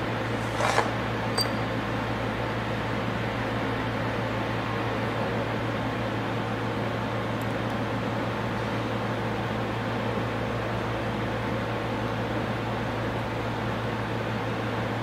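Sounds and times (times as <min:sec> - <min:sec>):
ventilation fan humming: 0:00.0 - 0:15.0.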